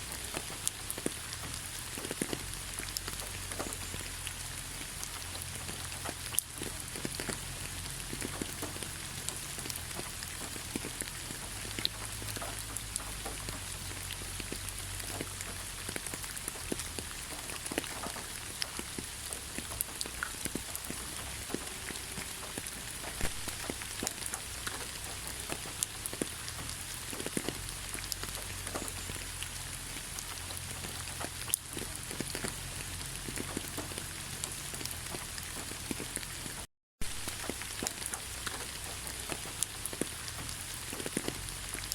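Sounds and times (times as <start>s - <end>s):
rain hiss: 0.0s - 41.9s
raindrops tapping: 0.0s - 41.9s.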